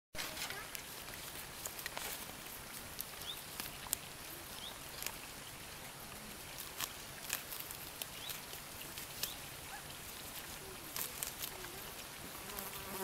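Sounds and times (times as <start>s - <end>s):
faint steady hiss: 0.2s - 13.0s
goats tearing plants: 0.2s - 13.0s.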